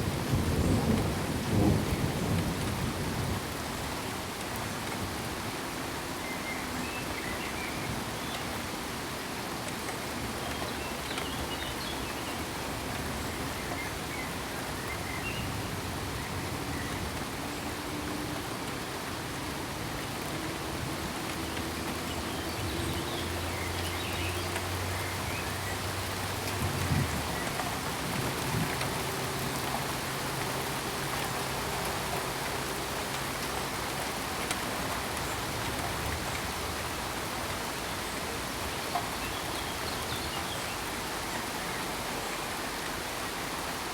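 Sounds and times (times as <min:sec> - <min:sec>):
steady rain hissing: 0:00.0 - 0:43.9.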